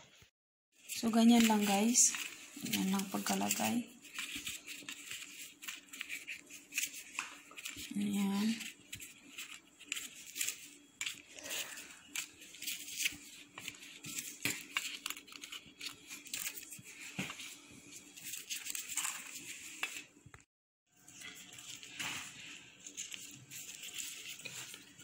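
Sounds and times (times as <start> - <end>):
plastic glove crinkling: 0.8 - 20.2, 21.0 - 25.0.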